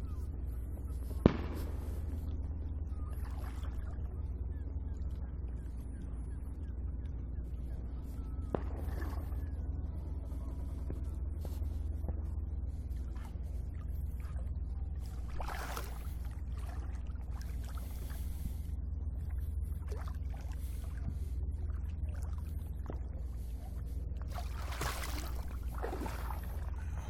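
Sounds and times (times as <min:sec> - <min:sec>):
steady low rumble: 0:00.0 - 0:27.0
water splashing and sloshing: 0:00.2 - 0:27.0.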